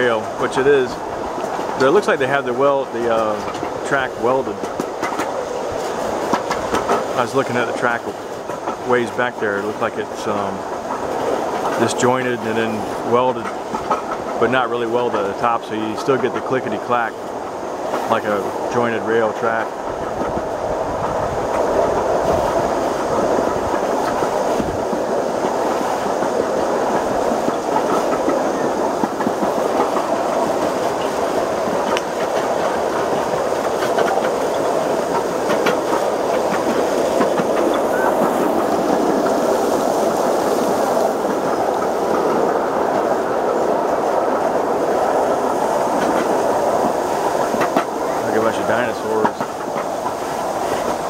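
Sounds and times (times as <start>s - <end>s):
clickety-clack at rail joints: 0.0s - 51.0s
train wheels rumbling on rail: 0.0s - 51.0s.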